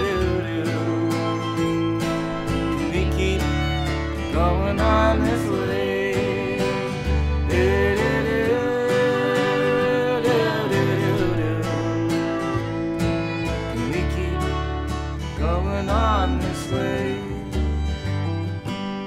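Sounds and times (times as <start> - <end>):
bass: 0.0 - 19.0
strummed acoustic guitar: 0.0 - 19.0
violin melody: 0.0 - 19.0.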